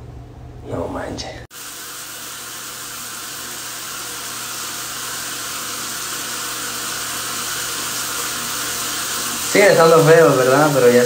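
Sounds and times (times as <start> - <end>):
water spraying onto tiled floor: 1.5 - 11.0.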